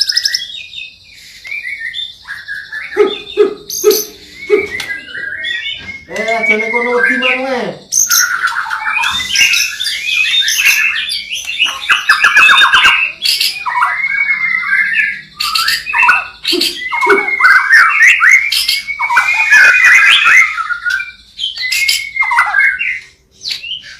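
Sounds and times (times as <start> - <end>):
songbird singing whistled phrases: 0.0 - 23.9.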